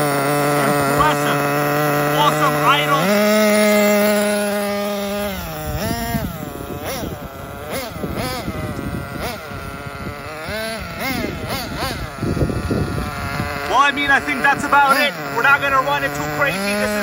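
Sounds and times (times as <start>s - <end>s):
model car engine revving: 0.0s - 17.0s.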